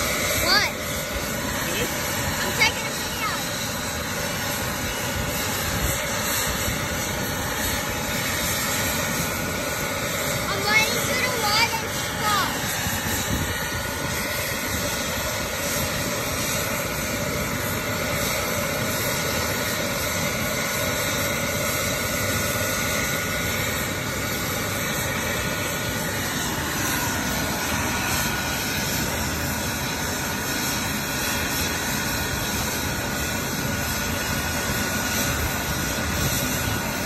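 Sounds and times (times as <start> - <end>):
helicopter engine whine: 0.0 - 37.0.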